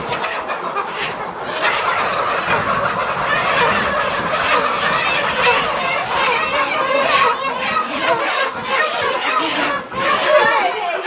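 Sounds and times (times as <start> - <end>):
chickens squawking and clucking: 0.0 - 11.0.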